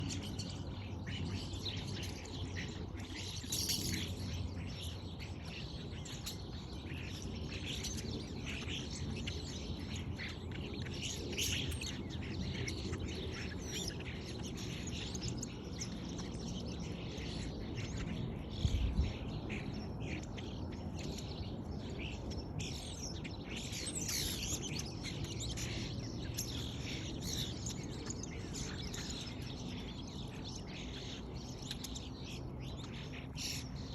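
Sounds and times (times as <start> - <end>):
starlings chirping and whistling: 0.0 - 33.9.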